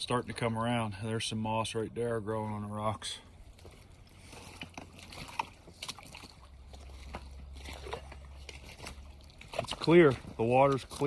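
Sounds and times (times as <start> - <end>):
creek water trickling over rocks: 0.0 - 11.0.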